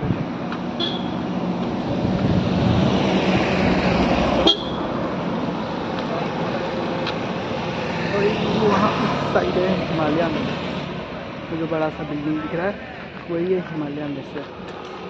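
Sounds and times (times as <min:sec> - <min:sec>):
motor vehicle running: 0:00.0 - 0:15.0.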